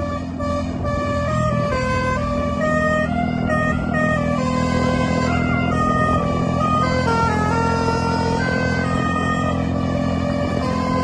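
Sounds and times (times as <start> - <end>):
multi-tone bus horn melody: 0.0 - 11.0
steady low drone: 0.0 - 11.0.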